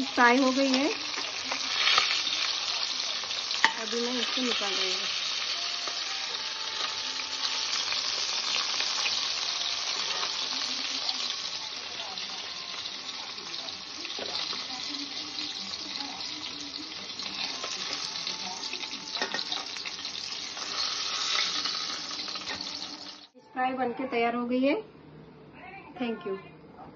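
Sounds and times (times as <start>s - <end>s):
fish sizzling in hot oil: 0.0s - 23.4s.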